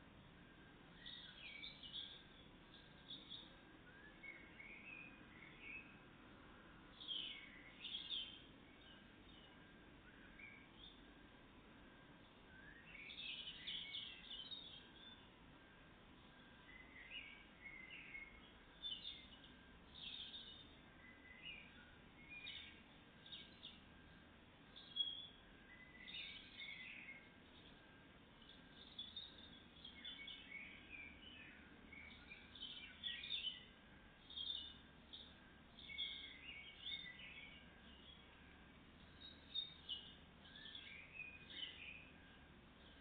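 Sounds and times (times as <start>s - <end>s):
songbird chirping: 0.0s - 43.0s
steady background hiss: 0.0s - 43.0s.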